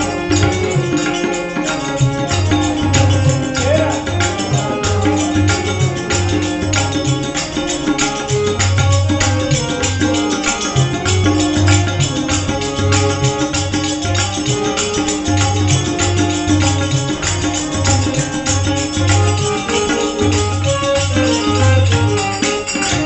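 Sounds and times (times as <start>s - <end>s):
fast jingling percussion: 0.0s - 23.0s
harmonium notes: 0.0s - 23.0s.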